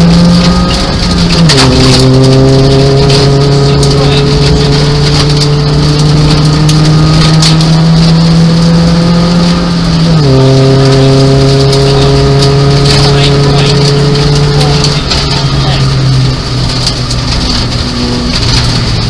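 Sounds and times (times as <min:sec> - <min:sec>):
car engine accelerating: 0:00.0 - 0:19.0
gravel rattling against car underside: 0:00.0 - 0:19.0.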